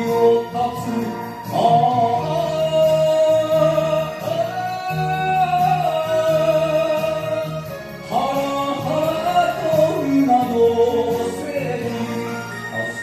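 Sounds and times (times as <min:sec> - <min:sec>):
backing track with pulsing bass: 0:00.0 - 0:13.0.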